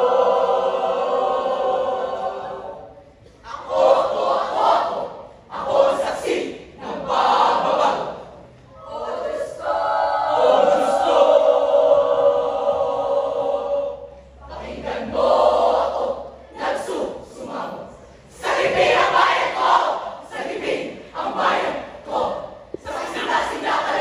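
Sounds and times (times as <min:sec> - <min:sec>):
choir singing a held chord: 0:00.0 - 0:24.0.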